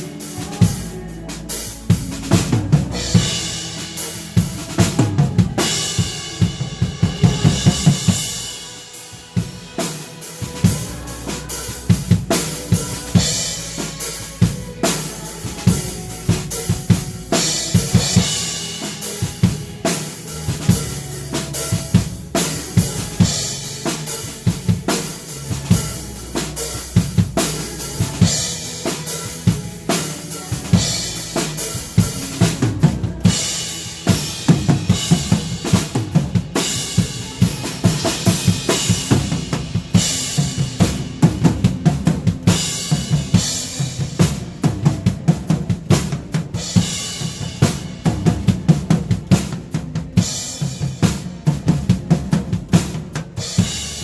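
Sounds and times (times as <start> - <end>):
cymbals: 0.0 - 54.0.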